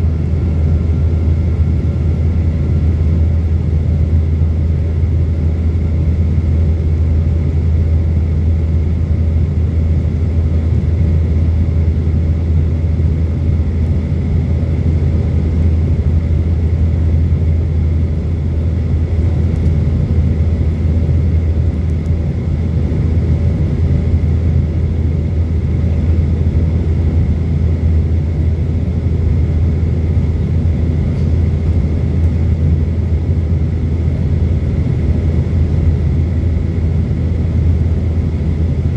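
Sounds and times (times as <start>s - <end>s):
jet engines low rumble: 0.0s - 38.9s.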